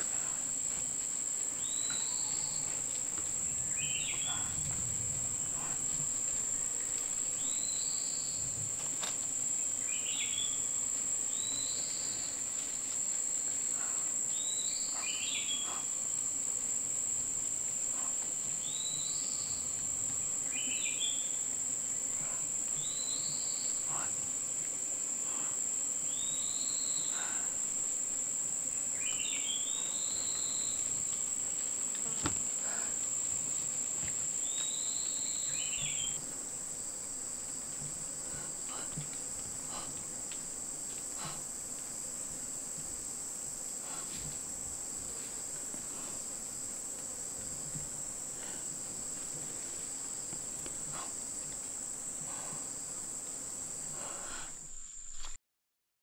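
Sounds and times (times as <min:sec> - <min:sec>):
insects droning: 0:00.0 - 0:55.4.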